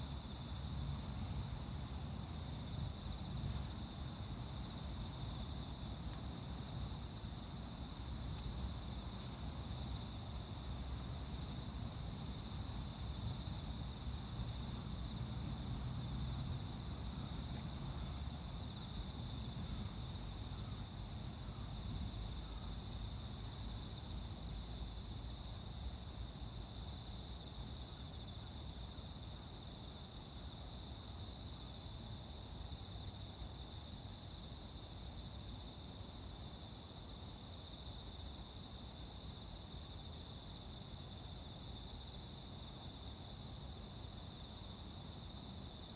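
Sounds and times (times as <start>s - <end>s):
faint repeating insect chirp: 0.0s - 45.9s.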